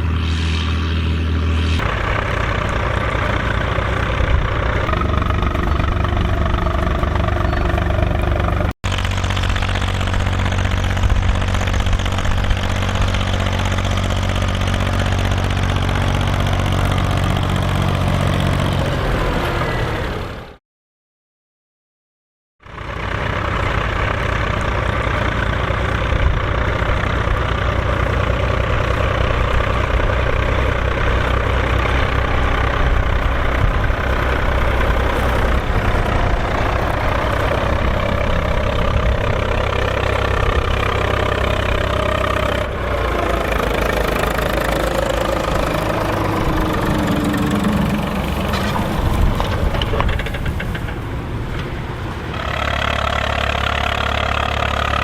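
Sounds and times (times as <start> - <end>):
tractor diesel engine running: 0.0 - 20.6, 22.6 - 55.0.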